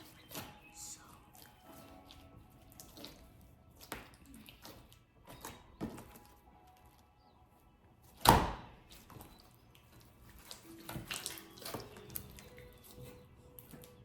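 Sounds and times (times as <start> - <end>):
slime squelching by hand: 0.0 - 14.0.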